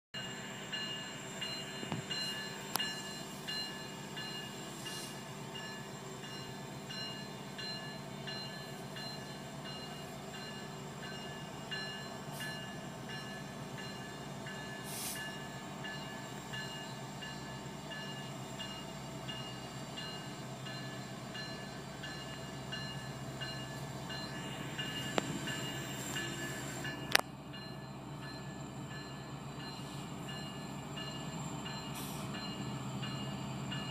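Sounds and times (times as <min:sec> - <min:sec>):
distant diesel locomotive drone: 0:00.2 - 0:33.9
high ringing pulse: 0:00.2 - 0:33.9.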